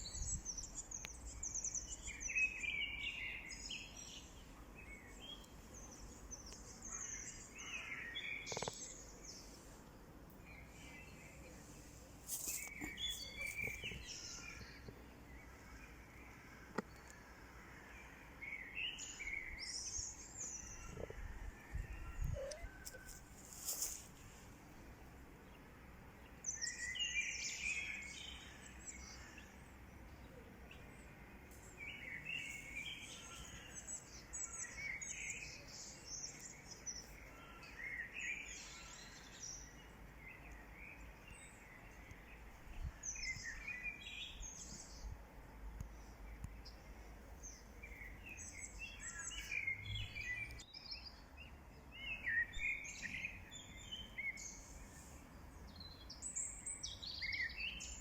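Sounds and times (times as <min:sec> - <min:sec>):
small birds chirping: 0:00.0 - 0:24.4, 0:26.2 - 0:58.0.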